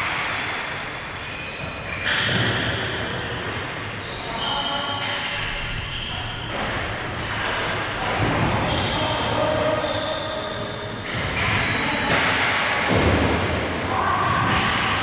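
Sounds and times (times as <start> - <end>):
shoes squeaking on court floor: 0.1 - 12.4.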